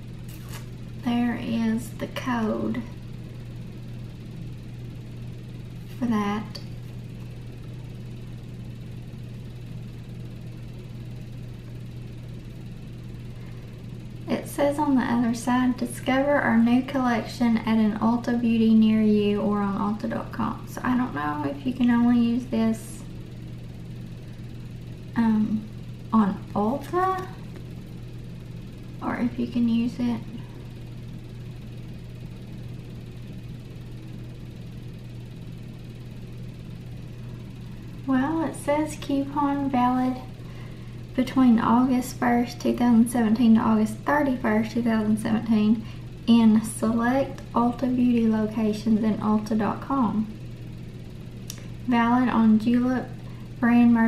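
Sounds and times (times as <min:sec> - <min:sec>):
low machine hum with hiss: 0:00.0 - 0:54.0.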